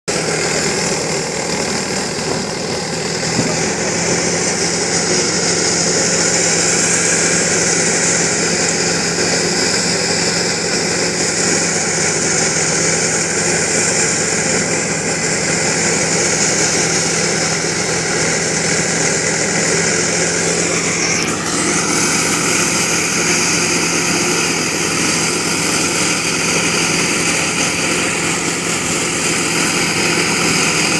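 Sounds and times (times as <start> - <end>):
harvester engine humming: 0.1 - 30.9.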